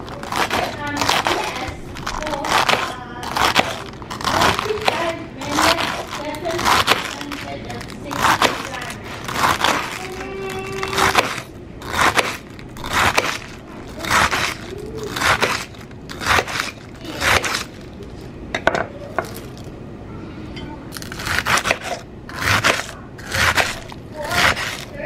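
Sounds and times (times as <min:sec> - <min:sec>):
knife chopping lettuce on board: 0:00.2 - 0:07.5, 0:08.1 - 0:17.8, 0:21.0 - 0:24.9.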